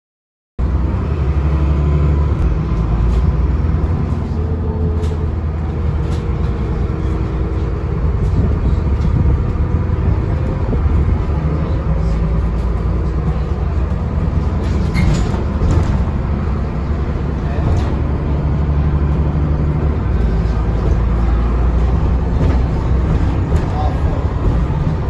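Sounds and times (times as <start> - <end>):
bus engine drone: 0.6 - 25.0
road noise: 0.6 - 25.0.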